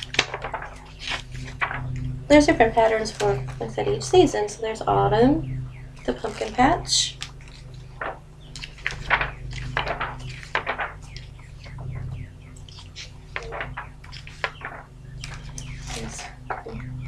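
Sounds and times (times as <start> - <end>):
paper pages turning: 0.0 - 4.1, 6.2 - 11.8, 12.7 - 16.7
steady low hum: 0.0 - 17.0.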